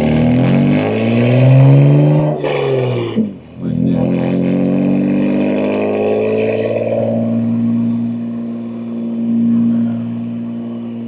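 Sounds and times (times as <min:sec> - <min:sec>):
car exhaust revving: 0:00.0 - 0:11.0.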